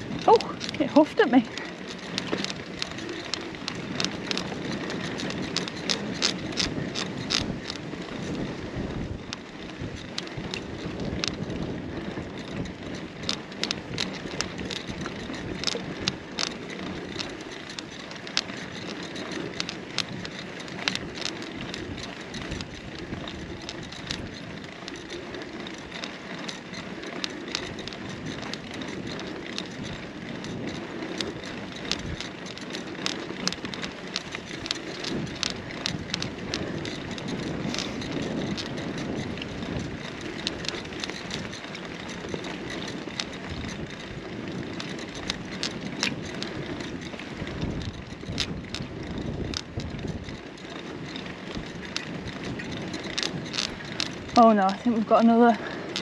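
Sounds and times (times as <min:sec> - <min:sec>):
bike rattling and clicking: 0:00.0 - 0:56.0
bike tyres rumbling on rough ground: 0:00.0 - 0:56.0.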